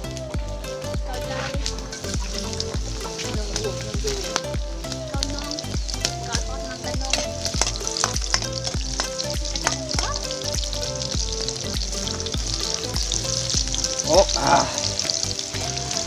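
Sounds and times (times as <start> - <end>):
background music with beat: 0.0 - 16.0
garlic sizzling in oil: 0.0 - 16.0.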